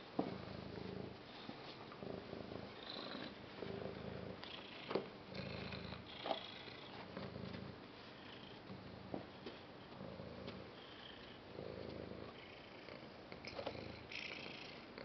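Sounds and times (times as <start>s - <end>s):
cat purring: 0.2s - 15.0s.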